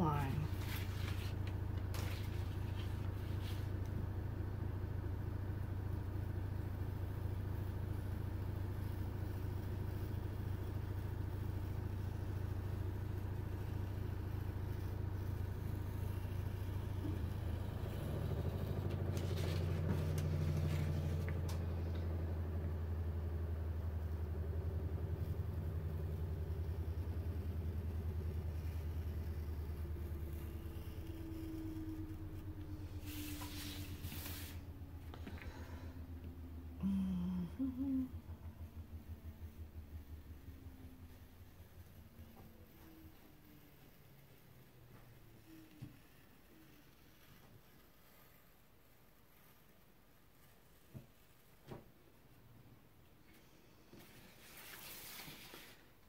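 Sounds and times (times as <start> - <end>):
motor rumbling: 0.0 - 46.2.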